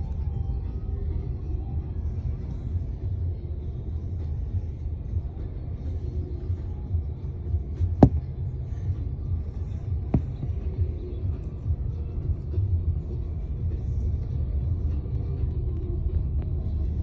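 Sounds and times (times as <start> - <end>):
truck engines rumbling: 0.0 - 17.0.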